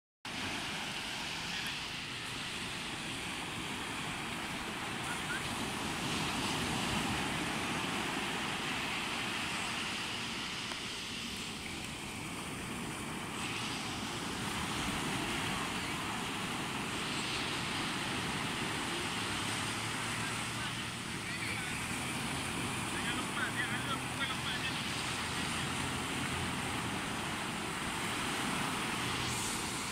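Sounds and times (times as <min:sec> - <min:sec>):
waves washing up a beach: 0:00.3 - 0:29.9.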